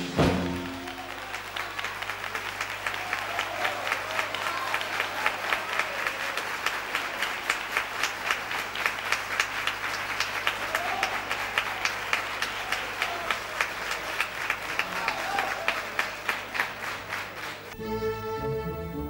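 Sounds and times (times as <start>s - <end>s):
audience applauding: 0.0s - 17.9s.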